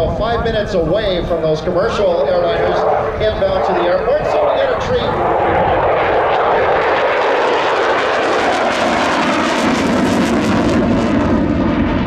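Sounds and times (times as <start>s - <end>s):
fighter jet passing: 0.0s - 12.0s
afterburner crackling: 0.1s - 12.0s.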